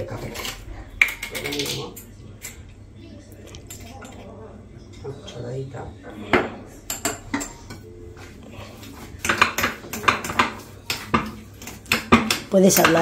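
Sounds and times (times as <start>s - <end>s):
utensils and dishes clinking: 0.0s - 13.0s.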